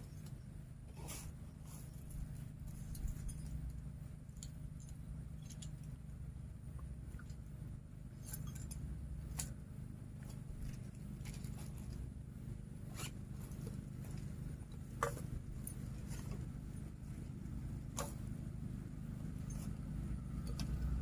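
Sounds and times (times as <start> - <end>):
light clicks and scrapes: 0.0 - 18.5, 19.3 - 21.0
low steady rumble: 0.0 - 21.0.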